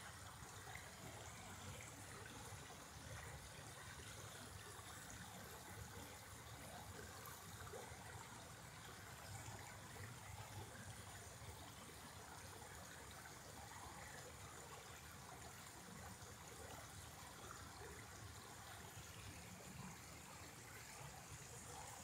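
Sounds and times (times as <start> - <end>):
creek trickling over rocks: 0.0 - 22.0.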